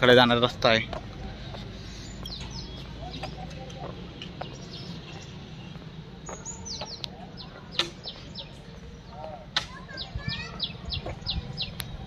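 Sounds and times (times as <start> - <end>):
birds chirping downward sweeps: 1.2 - 12.0.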